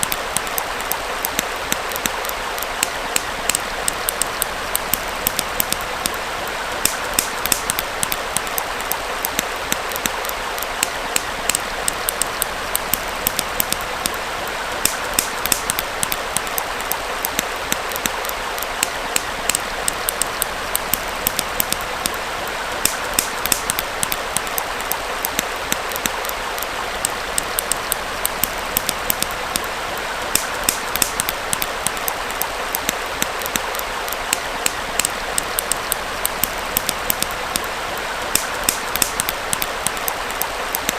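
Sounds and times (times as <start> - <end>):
campfire crackling and popping: 0.0 - 40.9
stream flowing: 0.0 - 40.9.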